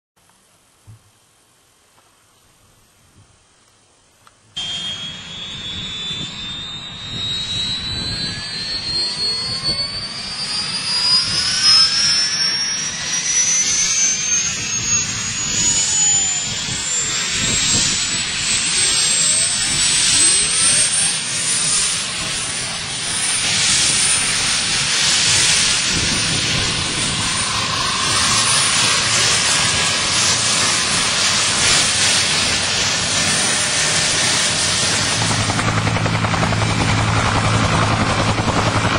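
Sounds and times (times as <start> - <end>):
helicopter rotor beating: 4.6 - 38.9
helicopter turbine whine rising: 4.6 - 38.9.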